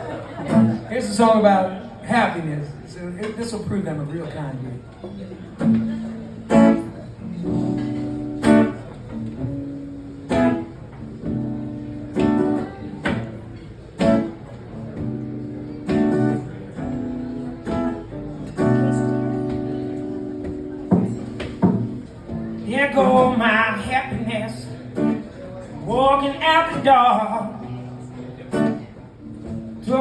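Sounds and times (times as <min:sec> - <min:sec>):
acoustic guitar strumming: 0:00.1 - 0:02.4, 0:05.6 - 0:30.0.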